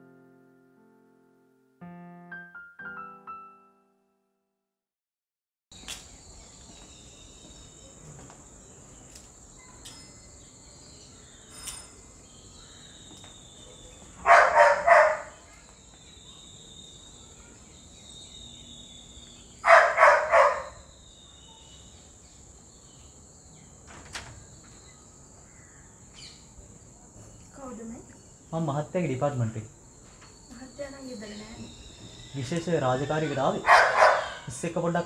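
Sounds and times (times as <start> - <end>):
crickets chirring: 5.8 - 35.0.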